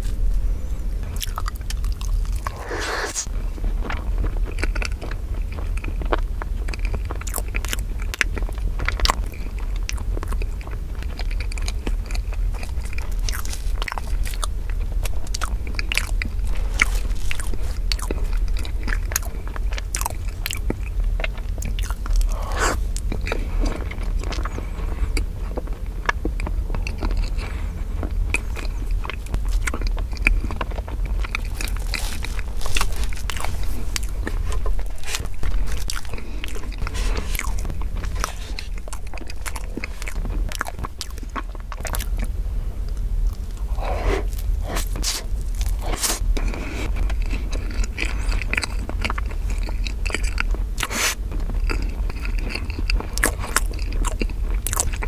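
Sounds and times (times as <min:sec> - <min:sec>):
close chewing and mouth sounds: 0:00.0 - 0:55.0.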